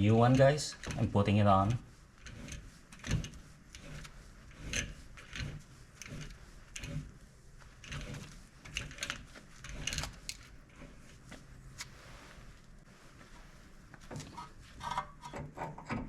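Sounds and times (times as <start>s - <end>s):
light clicks and knocks of hand work: 0.1s - 12.0s, 13.2s - 16.0s.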